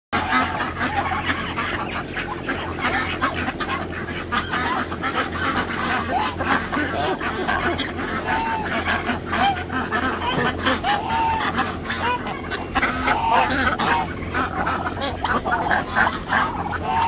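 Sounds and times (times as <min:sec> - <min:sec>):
ducks quacking: 0:00.2 - 0:17.0
geese honking: 0:00.2 - 0:17.0.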